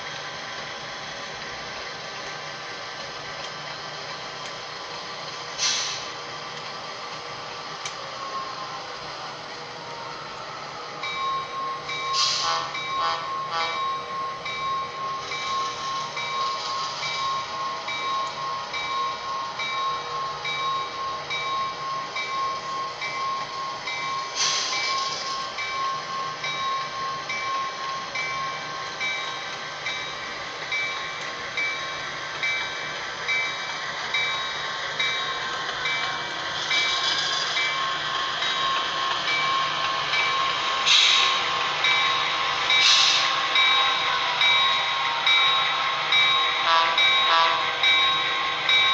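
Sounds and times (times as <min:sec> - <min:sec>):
diesel locomotive engine sound: 0:00.0 - 0:48.9.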